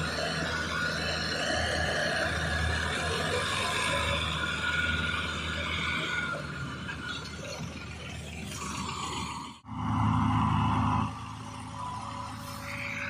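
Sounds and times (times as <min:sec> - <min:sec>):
loud engine drone: 0:00.0 - 0:13.0
tractor engines running: 0:00.0 - 0:13.0.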